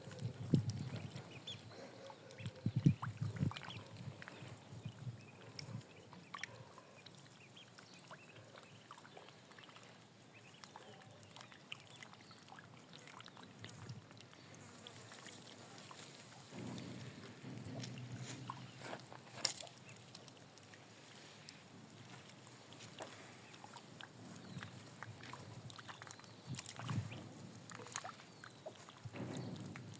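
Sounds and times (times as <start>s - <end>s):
water splashing and trickling: 0.0s - 29.9s.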